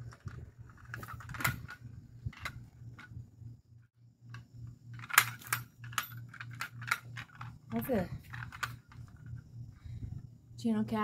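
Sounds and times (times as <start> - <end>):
pulsing low hum: 0.0 - 6.4, 7.0 - 11.0.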